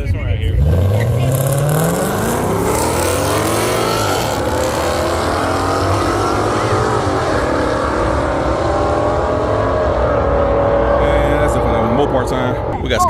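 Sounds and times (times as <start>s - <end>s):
race car engines at full throttle: 0.0s - 13.0s.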